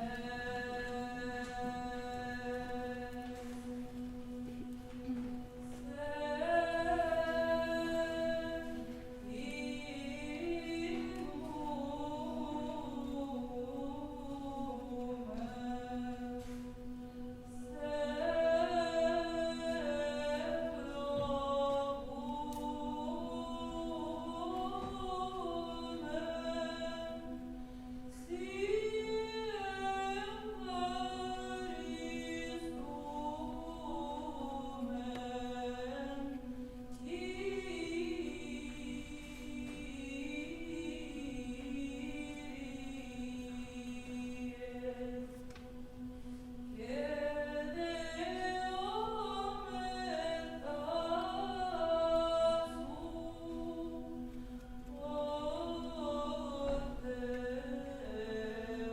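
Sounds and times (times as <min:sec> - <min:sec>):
unaccompanied vocal ensemble singing: 0:00.0 - 0:58.9.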